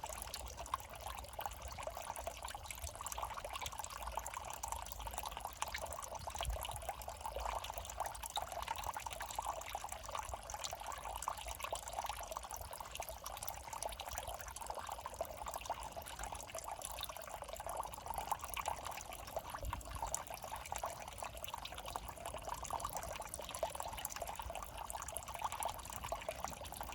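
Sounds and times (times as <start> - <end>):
water trickling in a ditch: 0.0 - 26.9.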